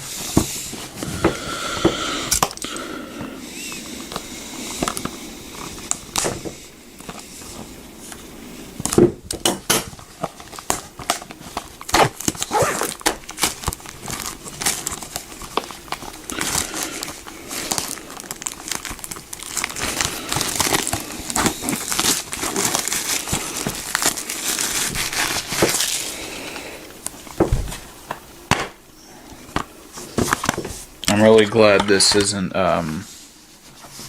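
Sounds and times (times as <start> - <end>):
plastic wrapping crinkling: 0.1 - 34.0.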